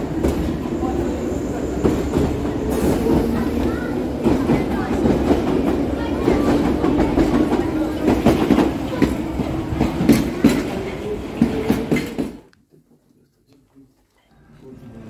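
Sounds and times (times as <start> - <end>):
train rumble: 0.0 - 12.5.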